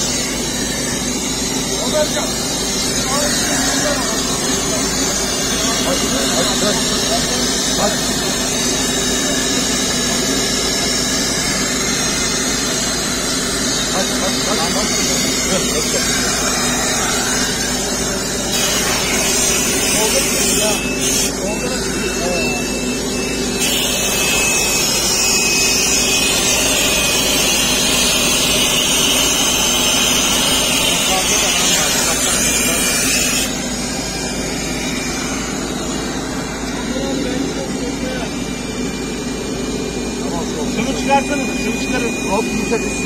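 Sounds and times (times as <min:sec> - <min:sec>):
machine humming with hiss: 0:00.0 - 0:43.0
steady engine noise: 0:00.0 - 0:43.0.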